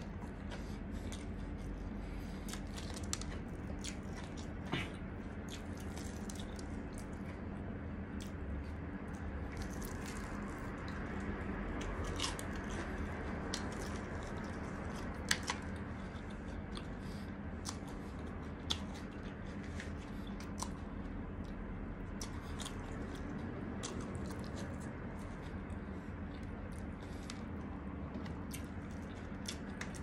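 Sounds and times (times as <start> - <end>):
chewing crispy fried chicken: 0.0 - 30.0
low background hum: 0.0 - 30.0.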